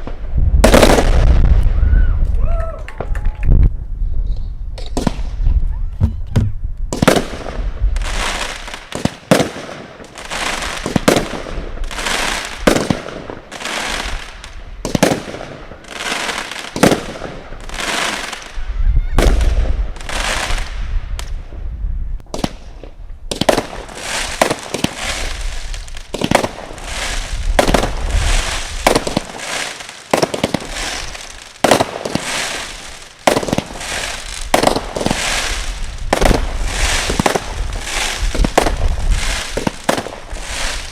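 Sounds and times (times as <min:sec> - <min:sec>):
firework bangs: 0:00.0 - 0:02.0, 0:04.8 - 0:05.5, 0:06.4 - 0:21.6, 0:22.2 - 0:40.9
firework hissing and crackling: 0:07.0 - 0:21.4, 0:22.2 - 0:40.9.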